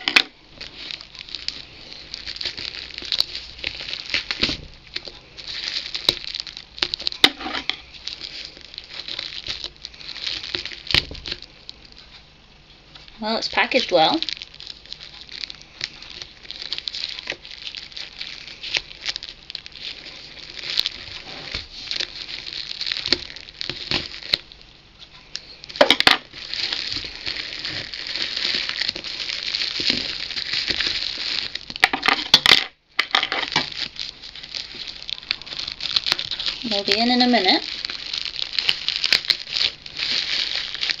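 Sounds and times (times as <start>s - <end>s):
plastic wrapping crinkling: 0.0s - 41.0s.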